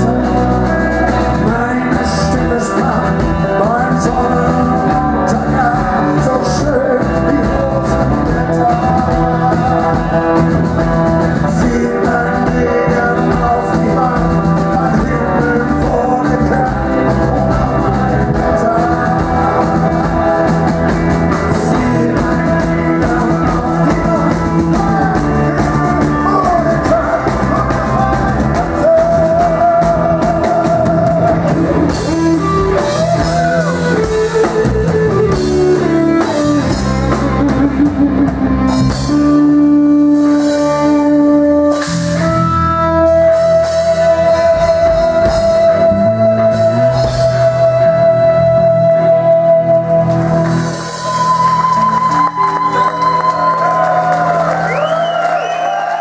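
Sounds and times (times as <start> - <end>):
electric guitar lead with bent notes: 0.0 - 55.0
rock band playing live: 0.0 - 56.0.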